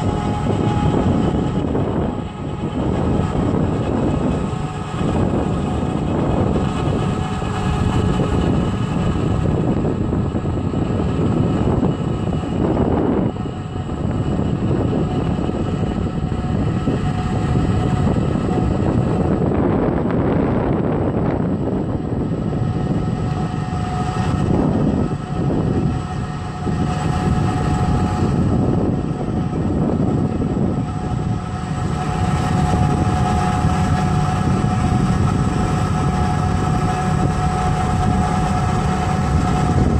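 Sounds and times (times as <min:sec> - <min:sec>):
faint steady whine: 0:00.0 - 0:39.9
tractor engine drone: 0:00.0 - 0:39.9.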